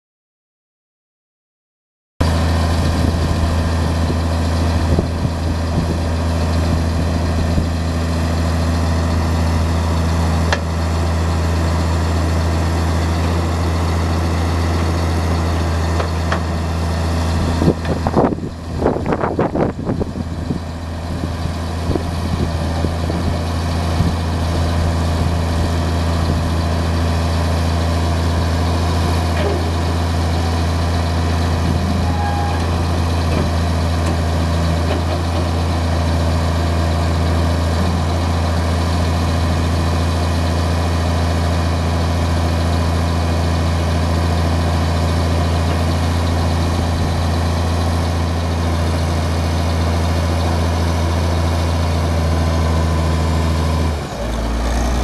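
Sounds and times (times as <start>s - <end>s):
tractor diesel engine idling: 2.2s - 55.0s.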